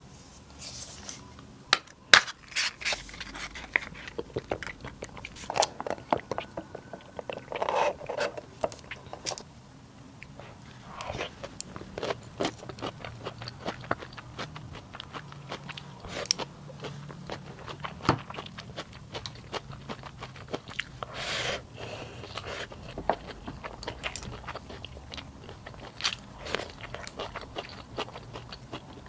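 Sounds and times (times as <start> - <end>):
person crunching and chewing food: 2.2 - 9.4, 10.2 - 29.0.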